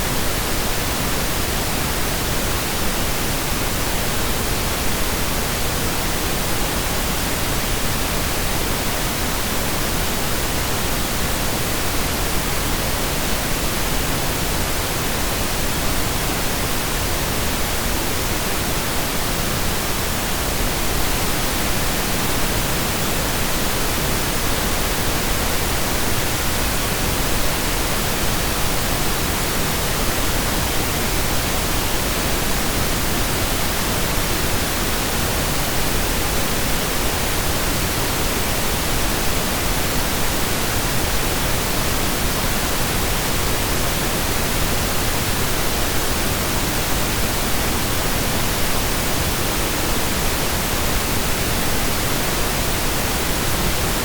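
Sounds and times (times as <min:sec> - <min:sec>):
steady pink noise hiss: 0:00.0 - 0:54.0.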